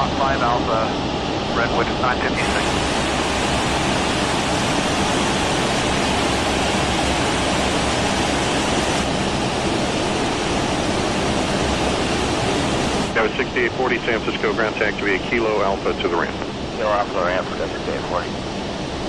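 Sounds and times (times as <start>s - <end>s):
jet engine and airflow rushing: 0.0s - 19.0s.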